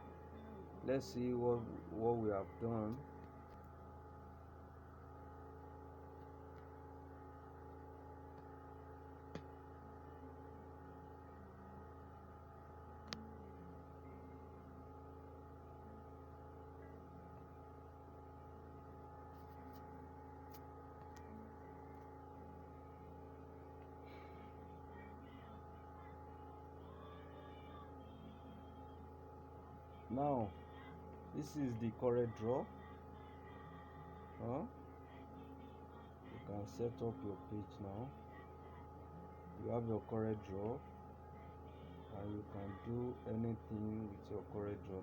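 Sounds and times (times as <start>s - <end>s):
electrical hum: 0.0s - 45.0s.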